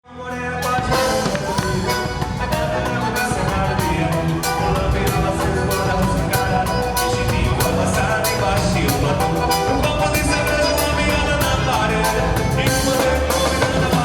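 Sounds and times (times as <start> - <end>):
forro music: 0.1 - 14.0.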